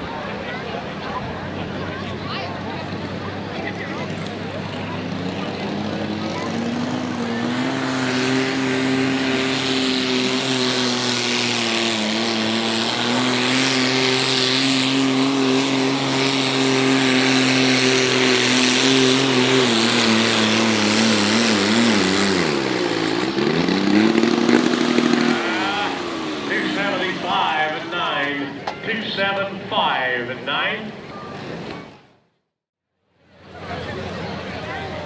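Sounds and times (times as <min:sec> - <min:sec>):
diesel tractor engine at full throttle: 0:00.0 - 0:32.0, 0:33.2 - 0:35.0.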